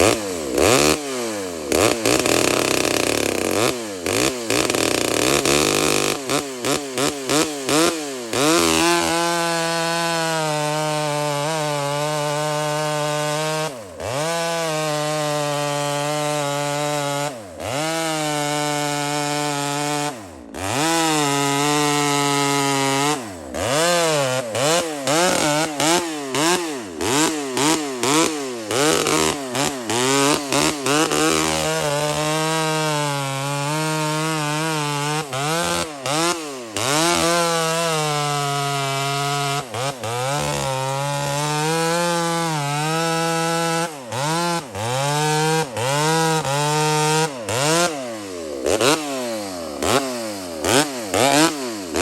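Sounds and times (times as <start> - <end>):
chainsaw engine revving: 0.0 - 52.0.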